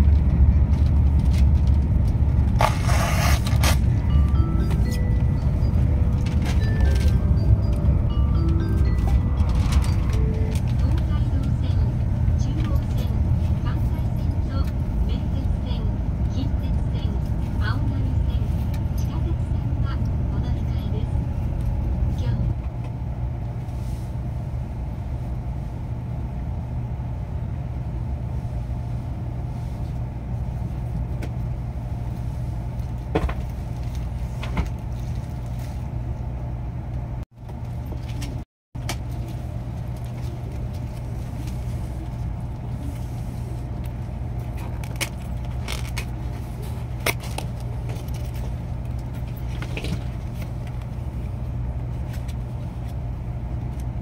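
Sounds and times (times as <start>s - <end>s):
train cabin rumble: 0.0s - 54.0s.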